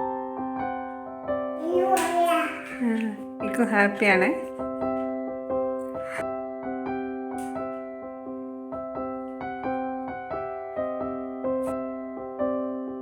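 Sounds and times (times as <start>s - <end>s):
gentle electric piano melody: 0.0s - 13.0s.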